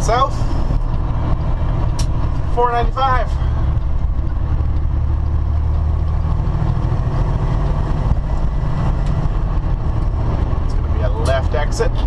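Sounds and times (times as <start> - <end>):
truck diesel engine drone: 0.0 - 12.0
tyre and road noise: 0.0 - 12.0.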